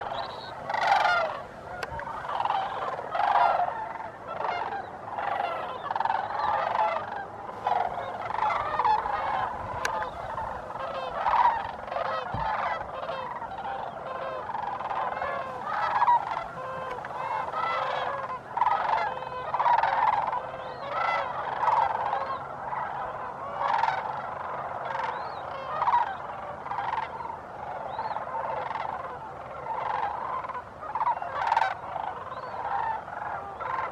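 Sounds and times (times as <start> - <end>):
cranes calling: 0.0 - 33.9.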